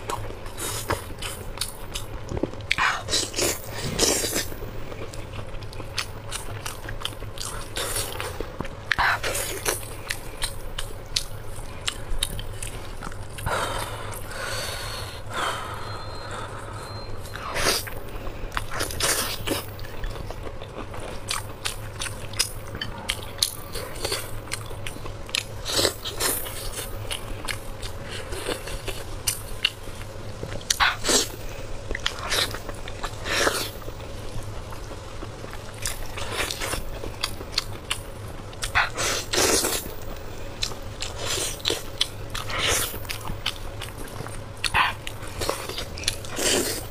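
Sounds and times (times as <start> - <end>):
wet chewing and smacking: 0.0 - 14.5, 16.3 - 46.9.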